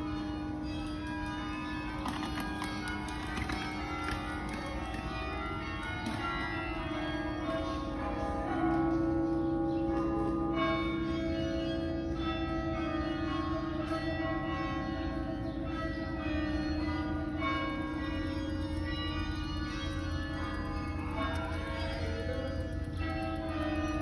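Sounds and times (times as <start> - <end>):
carillon bells playing a tune: 0.0 - 24.0
loud low bell ringing: 0.0 - 24.0.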